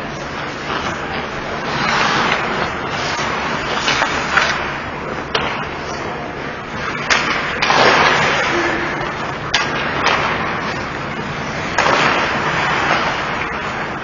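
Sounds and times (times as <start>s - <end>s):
hockey stick and puck clacks: 0.0s - 14.0s
skates scraping on ice: 0.0s - 14.0s.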